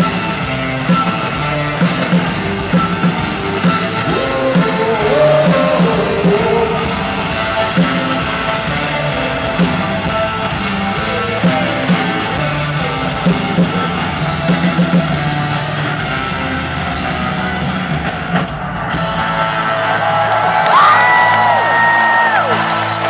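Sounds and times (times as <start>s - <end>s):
live rock band: 0.0s - 23.0s.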